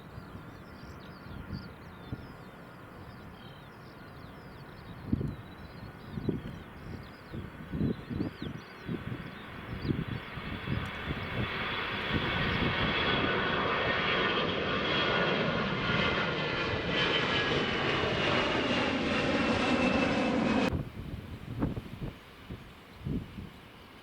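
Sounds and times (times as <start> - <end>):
jet engine with high whine: 0.0 - 24.0.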